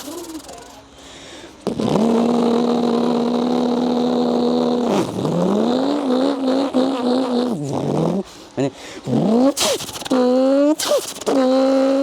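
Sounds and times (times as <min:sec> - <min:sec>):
boy imitating car engine: 0:00.0 - 0:00.8, 0:01.7 - 0:12.0.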